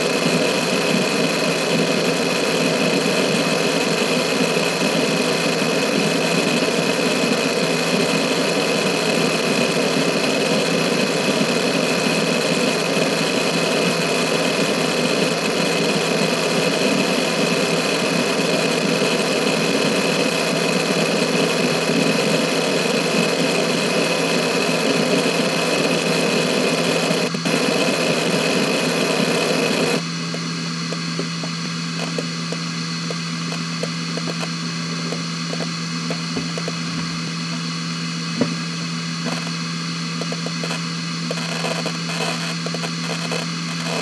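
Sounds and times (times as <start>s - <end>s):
hard drive head seek chatter: 0.0s - 44.0s
hard drive spindle whine: 0.0s - 44.0s.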